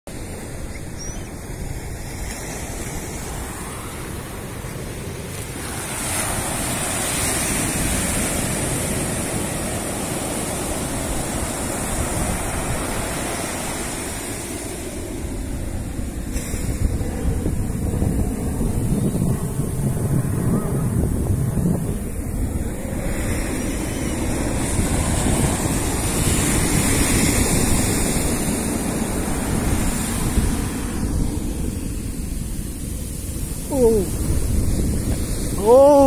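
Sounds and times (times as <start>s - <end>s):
ocean surf breaking on beach: 0.1s - 36.0s
wind buffeting microphone: 0.1s - 36.0s.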